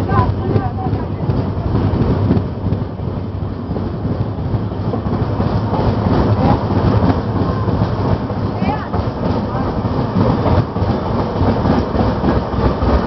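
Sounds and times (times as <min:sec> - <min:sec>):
passing train: 0:00.0 - 0:13.0
train wheels clattering over rails: 0:00.0 - 0:13.0.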